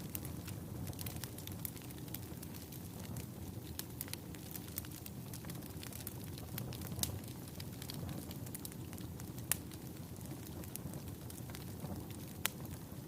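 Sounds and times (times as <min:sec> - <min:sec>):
logs crackling and popping: 0:00.0 - 0:13.0
rumble of flames: 0:00.0 - 0:13.0.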